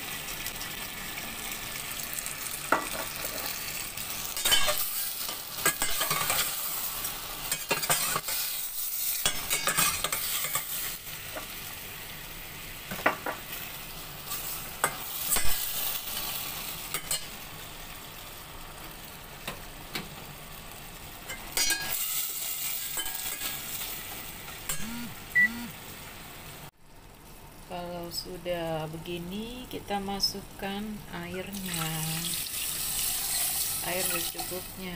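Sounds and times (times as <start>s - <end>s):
meat sizzling in a pot: 0.0s - 34.9s.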